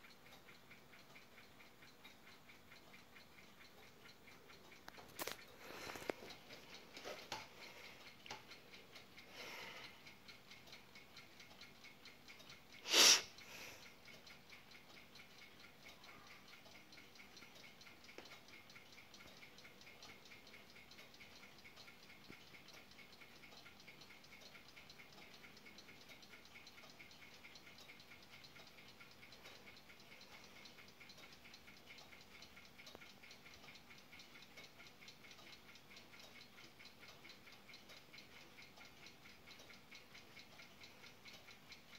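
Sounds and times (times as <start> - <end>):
clock ticking rapidly: 0.0 - 41.9.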